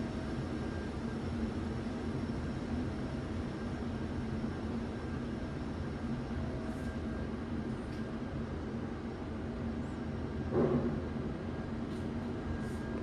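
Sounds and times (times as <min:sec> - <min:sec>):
lift hum and low rumble: 0:00.0 - 0:13.0.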